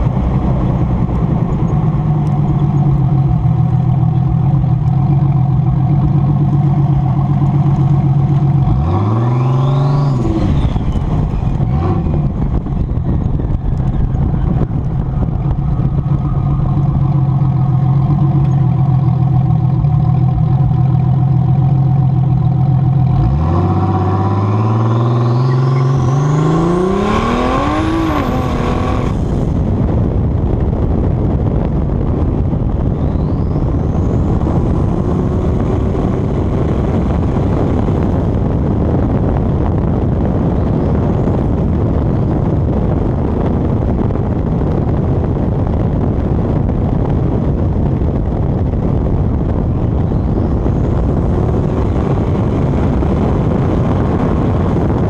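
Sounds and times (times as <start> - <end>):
car engine accelerating: 0.0 - 55.0
wind rushing on microphone: 0.0 - 55.0.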